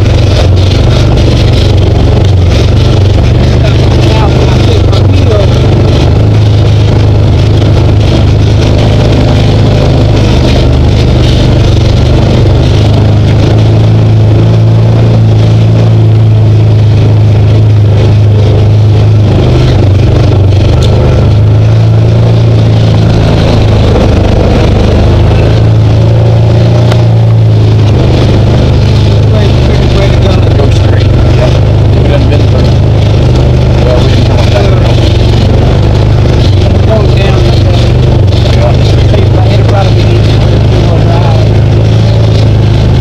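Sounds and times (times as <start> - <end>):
utility vehicle engine droning: 0.0 - 43.0.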